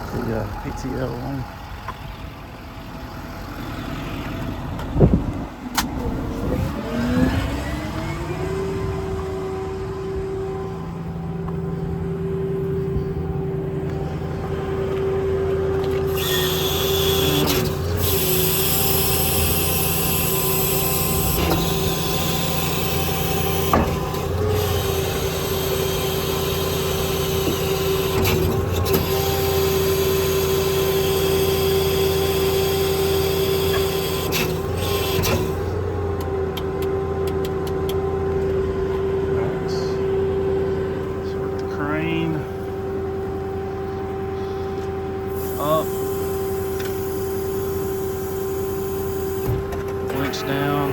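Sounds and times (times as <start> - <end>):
diesel engine rumble: 0.0 - 50.9
steady whine: 0.0 - 50.9.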